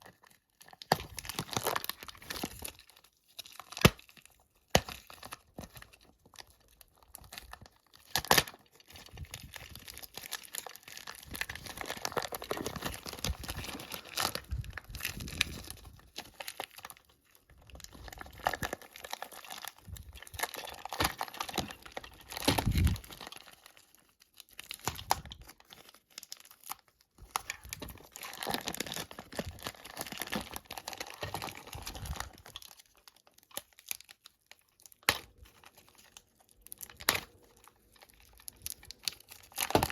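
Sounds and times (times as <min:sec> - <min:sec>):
packaging crinkling and tearing: 0:00.0 - 0:39.9.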